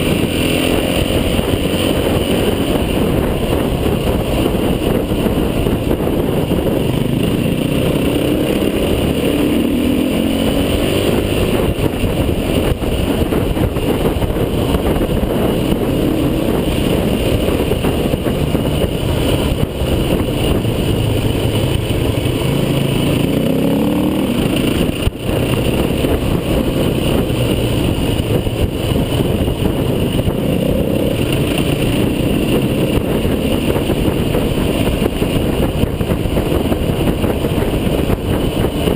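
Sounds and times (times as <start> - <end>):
constant rumbling noise: 0.0 - 38.9
off-road vehicle engine: 0.0 - 38.9.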